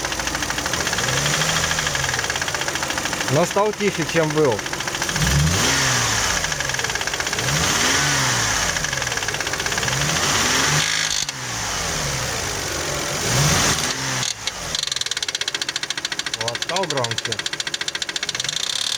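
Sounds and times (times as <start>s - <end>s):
car engine revving: 0.0s - 18.9s
engine knock: 0.0s - 18.9s.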